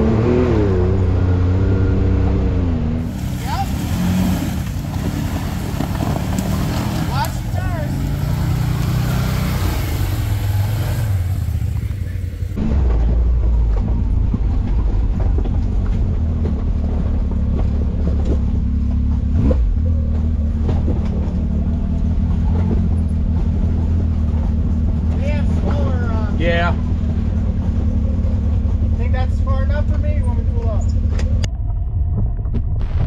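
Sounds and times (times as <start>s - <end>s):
deep engine drone: 0.0s - 33.0s
utility vehicle engine running: 0.0s - 33.0s.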